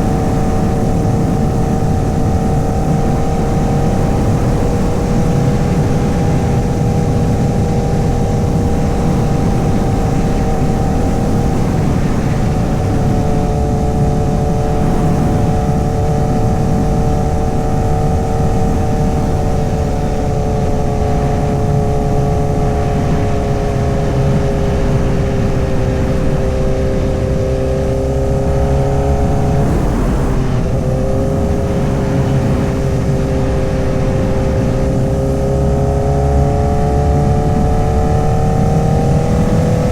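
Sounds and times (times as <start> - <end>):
dense low rumble: 0.0 - 39.9
motorcycle engine cruising: 0.0 - 39.9.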